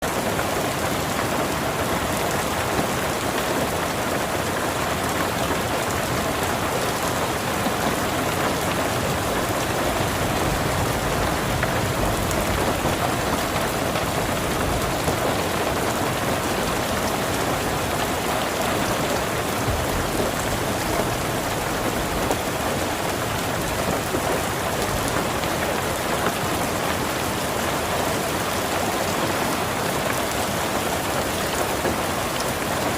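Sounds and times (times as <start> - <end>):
heavy rain pattering: 0.0 - 32.9.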